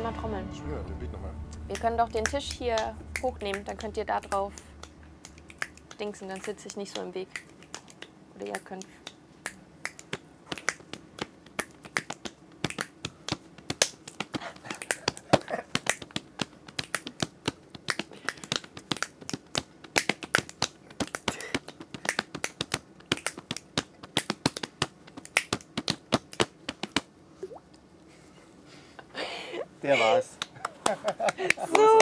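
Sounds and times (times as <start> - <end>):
hand claps and body slaps: 1.7 - 27.1, 30.4 - 32.0.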